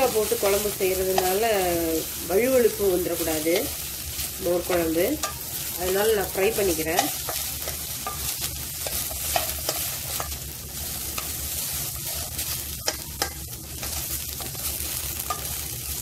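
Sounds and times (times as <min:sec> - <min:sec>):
okra sizzling in a pan: 0:00.0 - 0:16.0.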